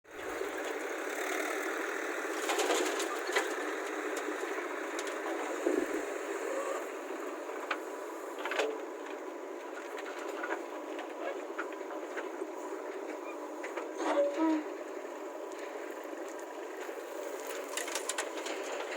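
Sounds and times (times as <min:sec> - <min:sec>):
diesel engine running: 0:00.1 - 0:18.9.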